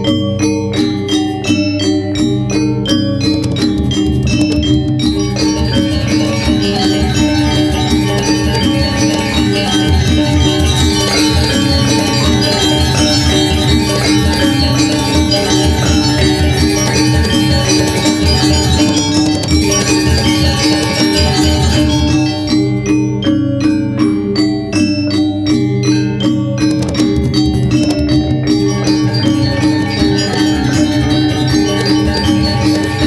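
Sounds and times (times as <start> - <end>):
gamelan metallophones playing: 0.0 - 33.0.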